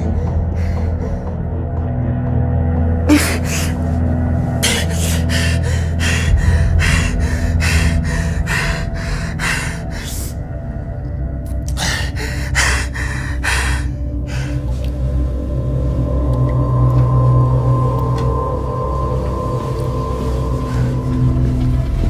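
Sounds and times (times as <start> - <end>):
dramatic music drone: 0.0 - 22.0.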